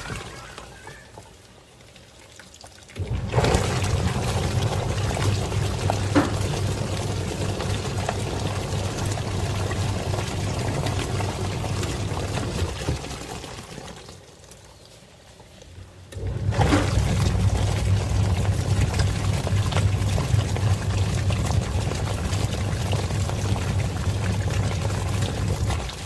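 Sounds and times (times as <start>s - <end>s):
washing machine motor hum: 0.0s - 1.3s, 3.0s - 14.2s, 16.0s - 26.0s
water churning and sloshing: 0.0s - 26.0s.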